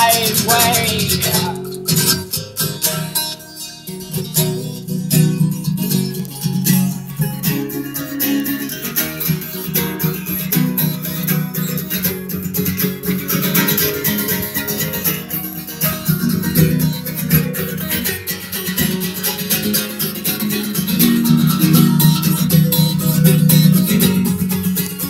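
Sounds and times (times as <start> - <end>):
strummed guitar: 0.0 - 25.0.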